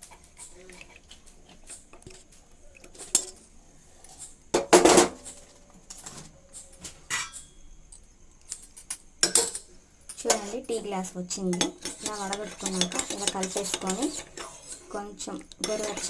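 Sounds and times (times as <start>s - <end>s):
kitchen utensils clinking: 0.0s - 16.0s.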